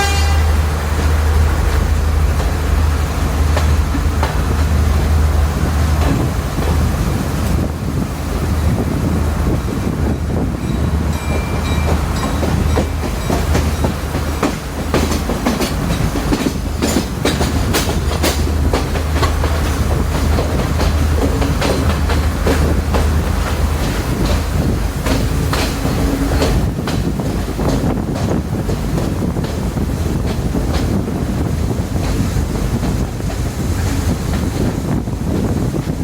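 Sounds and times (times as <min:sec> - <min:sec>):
train engine drone: 0:00.0 - 0:36.0
wheels clicking over rail joints: 0:00.0 - 0:36.0.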